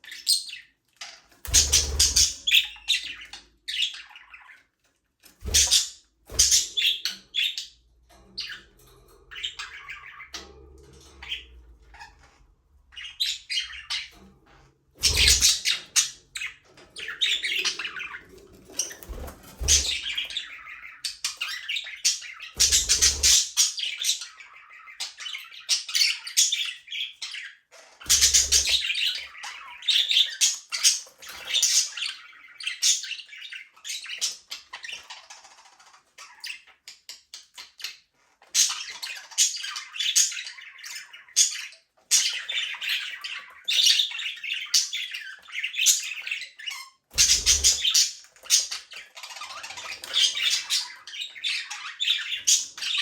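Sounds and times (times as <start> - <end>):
budgerigars chirping: 0.0 - 4.7, 5.4 - 7.8, 8.4 - 14.3, 15.0 - 53.0.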